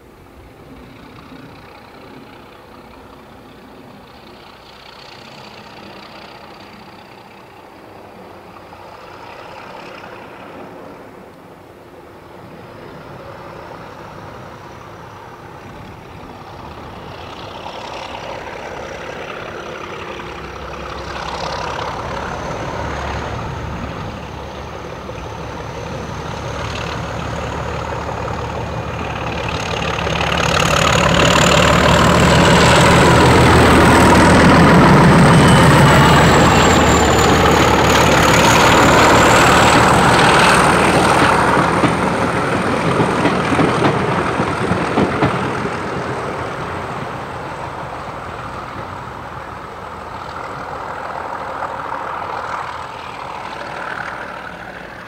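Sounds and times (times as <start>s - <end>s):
diesel locomotive engine passing: 0.0s - 55.0s.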